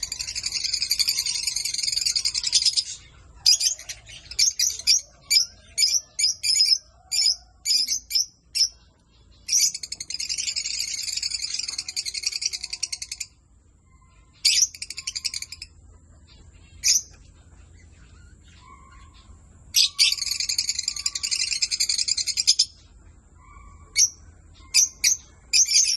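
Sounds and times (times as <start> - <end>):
parrots chattering: 0.0 - 8.8, 9.5 - 13.4, 14.0 - 25.9
parrots chirping: 0.0 - 25.9.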